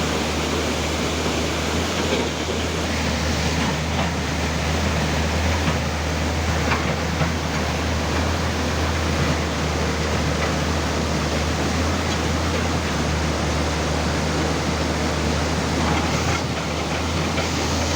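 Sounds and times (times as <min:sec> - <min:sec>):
diesel engine running: 0:00.0 - 0:17.9
river water rushing: 0:00.0 - 0:17.9.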